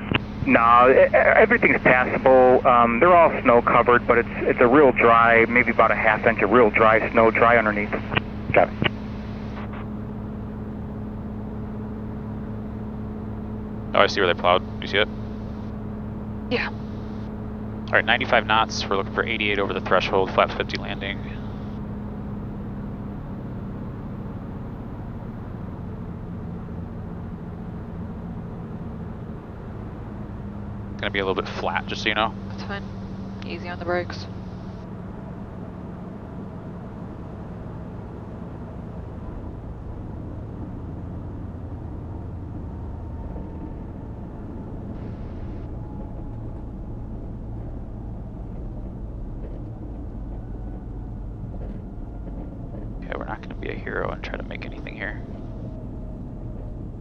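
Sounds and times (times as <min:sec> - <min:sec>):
aircraft engine droning: 0:00.0 - 0:57.0.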